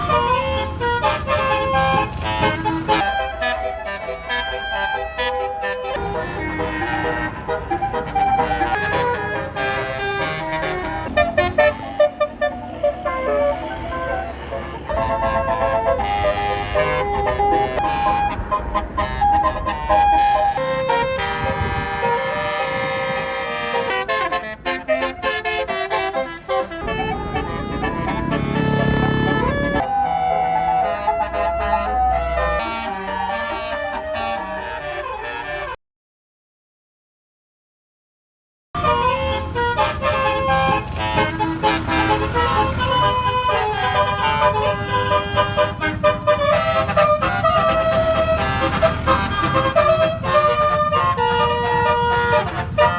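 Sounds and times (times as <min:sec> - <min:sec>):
bus engine running: 0:00.0 - 0:34.7, 0:38.8 - 0:52.9
musical air horn playing tune: 0:00.0 - 0:35.8, 0:38.8 - 0:52.9.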